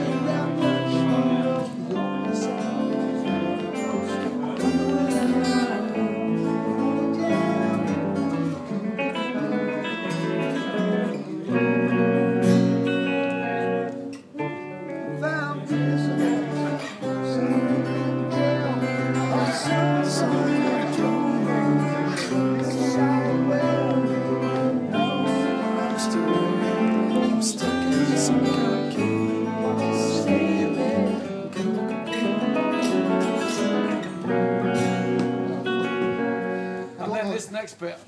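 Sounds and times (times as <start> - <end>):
guitars playing chords: 0.0 - 37.3.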